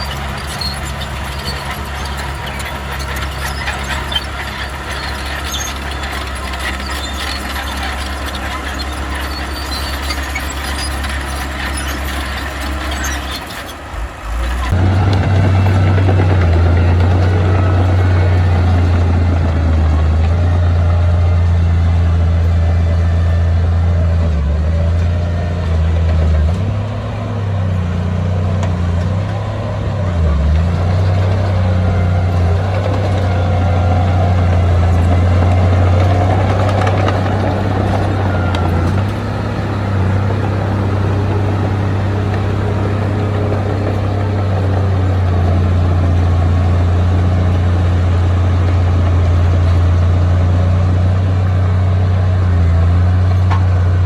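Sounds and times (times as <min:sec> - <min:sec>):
diesel engine low hum: 0:00.0 - 0:54.0.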